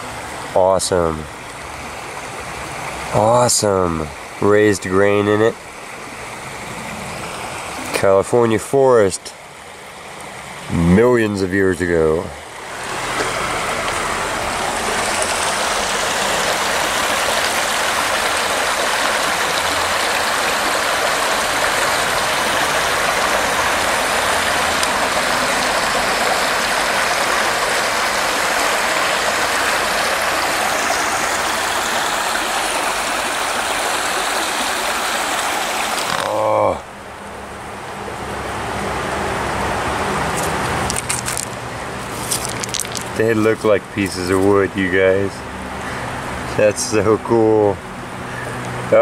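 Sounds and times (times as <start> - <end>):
creek water rushing over stones: 0.0 - 49.0.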